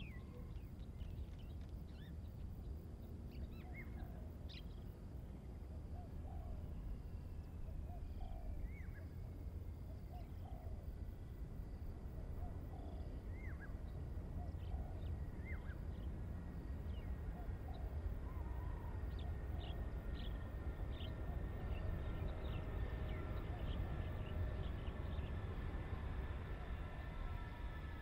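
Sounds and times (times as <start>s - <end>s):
low steady rumble: 0.0s - 28.0s.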